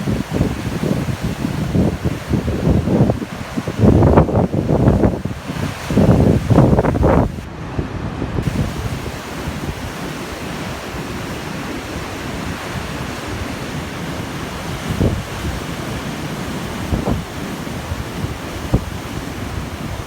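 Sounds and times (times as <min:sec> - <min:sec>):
surf washing on shore: 0:00.0 - 0:20.0
wind buffeting microphone: 0:00.0 - 0:20.0.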